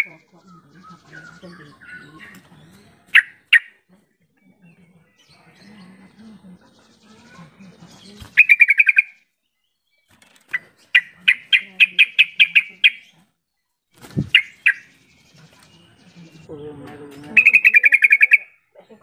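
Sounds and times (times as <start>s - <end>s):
bird chattering: 0.0s - 3.9s, 4.6s - 9.2s, 10.4s - 13.3s, 14.0s - 16.6s, 17.2s - 19.0s.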